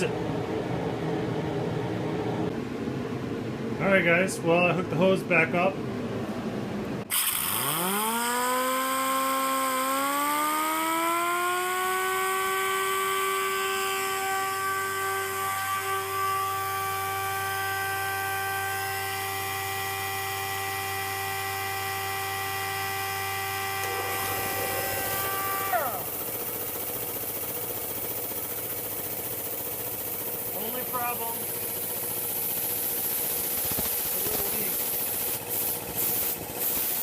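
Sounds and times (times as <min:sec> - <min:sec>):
small motor whine: 0:07.1 - 0:37.0.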